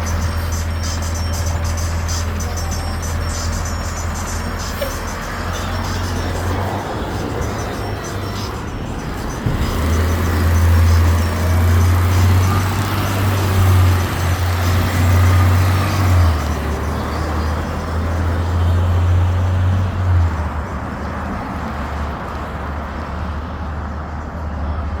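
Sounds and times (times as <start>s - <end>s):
garbage truck diesel engine: 0.0s - 25.0s.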